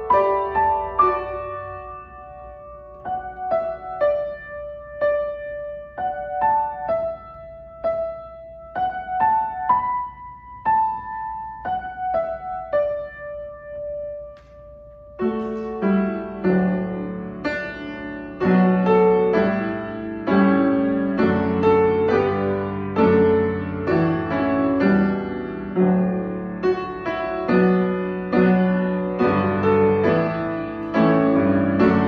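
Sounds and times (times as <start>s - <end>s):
grand piano playing: 0.0s - 32.0s.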